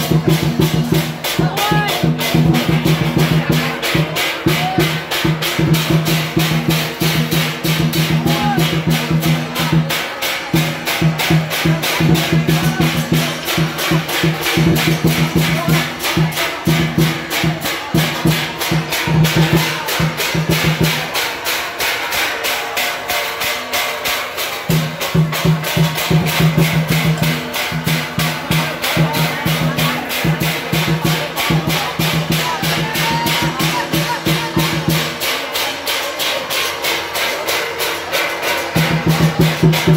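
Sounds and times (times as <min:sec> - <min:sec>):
drum and hand percussion beat: 0:00.0 - 0:39.9.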